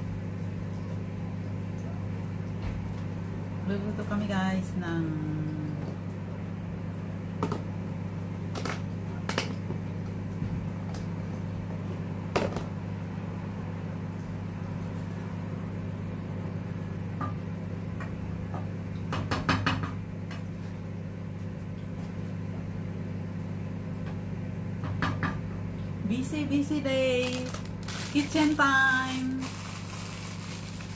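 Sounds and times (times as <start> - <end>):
kitchen appliance humming: 0.0 - 30.9.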